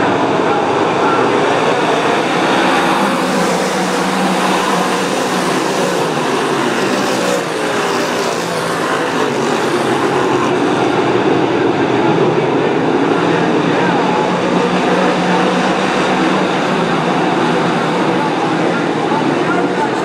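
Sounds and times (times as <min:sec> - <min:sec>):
race car engines roaring: 0:00.0 - 0:20.0.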